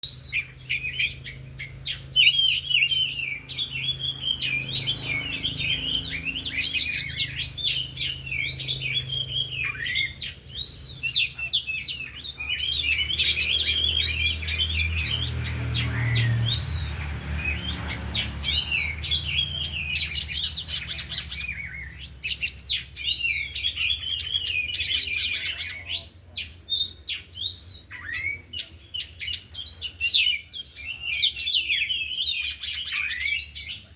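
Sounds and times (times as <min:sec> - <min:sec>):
birds singing whistles and trills: 0:00.0 - 0:33.9.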